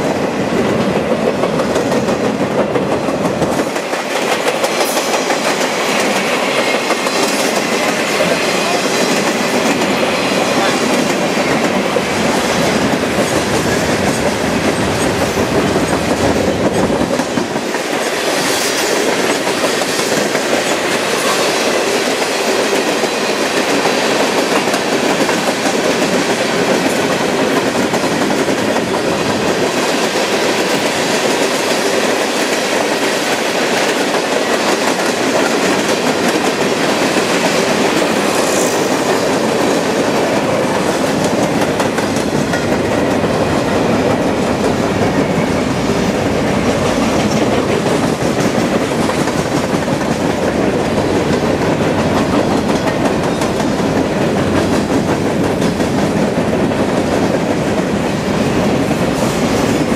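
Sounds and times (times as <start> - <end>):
steel wheels running on rails: 0.0 - 59.9.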